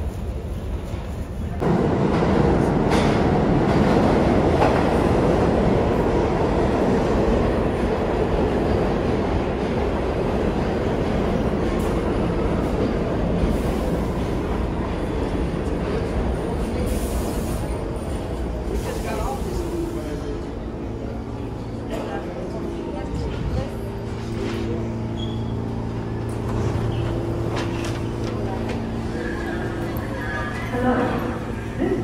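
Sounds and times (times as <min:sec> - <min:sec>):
subway train rumbling on rails: 0:00.0 - 0:32.0.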